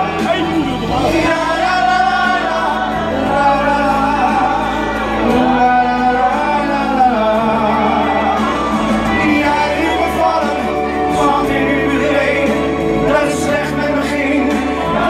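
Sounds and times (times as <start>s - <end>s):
pop ballad: 0.0s - 15.0s.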